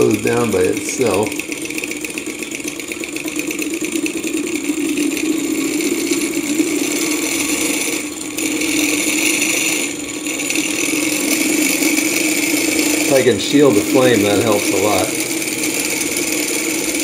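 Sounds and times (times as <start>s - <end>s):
stirling engine rattling: 0.0s - 17.0s.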